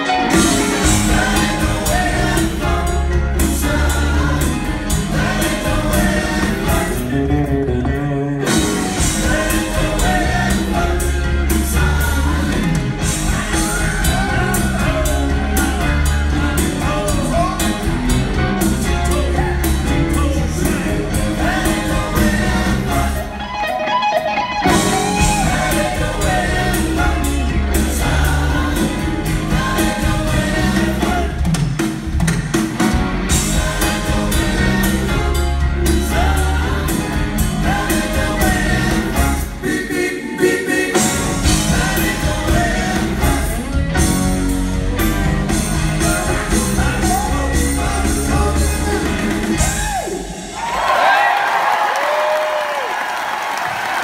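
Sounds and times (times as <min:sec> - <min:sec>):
live rock band playing: 0:00.0 - 0:51.3.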